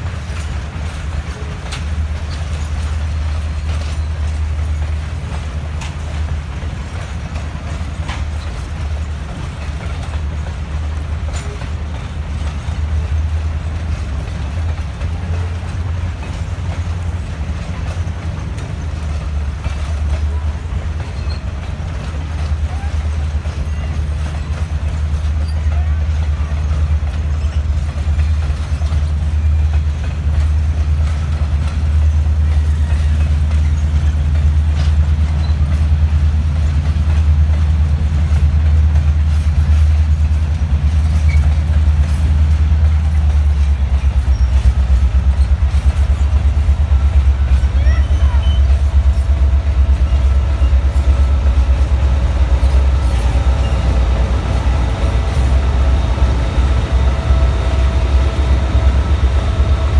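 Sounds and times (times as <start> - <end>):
locomotive low rapid pulsing: 0.0 - 59.9
train cars rumbling past: 0.0 - 59.9.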